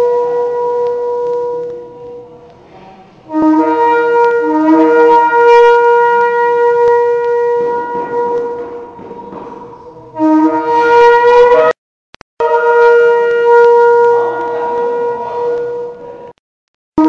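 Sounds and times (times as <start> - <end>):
shofar blasts: 0.0 - 11.8, 12.4 - 16.4.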